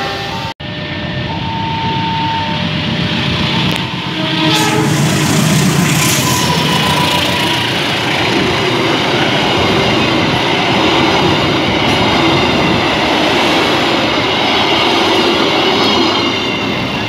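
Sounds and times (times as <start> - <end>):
train wheels running over rails: 2.0 - 17.0.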